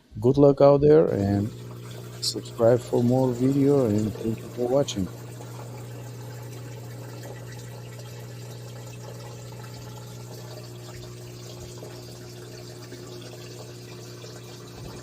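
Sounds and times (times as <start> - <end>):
drain pump humming: 1.0 - 15.0
water flowing through pump: 1.1 - 15.0.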